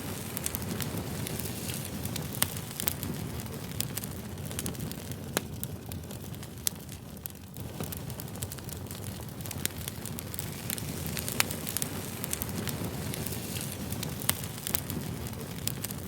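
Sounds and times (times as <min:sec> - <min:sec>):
fire crackling and popping: 0:00.0 - 0:16.0
flames rushing: 0:00.0 - 0:16.0.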